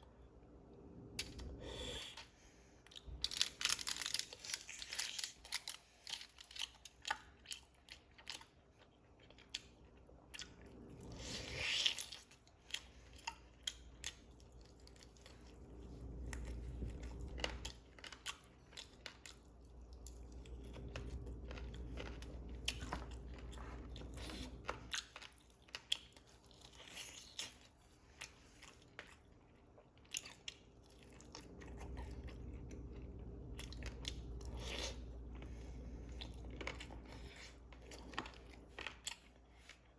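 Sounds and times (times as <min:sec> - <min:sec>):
chewing and crunching food: 0:01.2 - 0:39.9.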